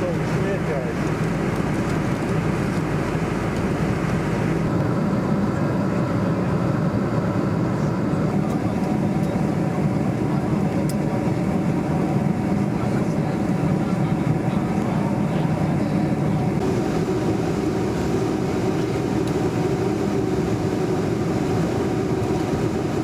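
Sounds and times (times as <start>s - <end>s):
airplane engine and airflow noise: 0.0s - 23.0s.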